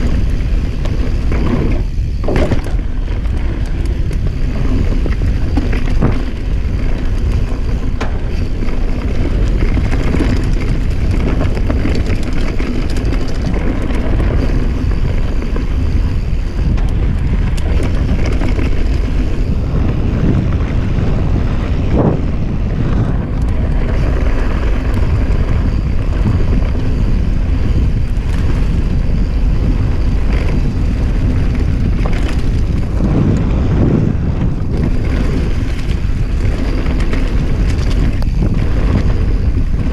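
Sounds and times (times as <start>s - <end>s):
bike knocks and rattles: 0.0s - 39.9s
bike tyres rolling over dirt: 0.0s - 39.9s
wind on microphone: 0.0s - 39.9s.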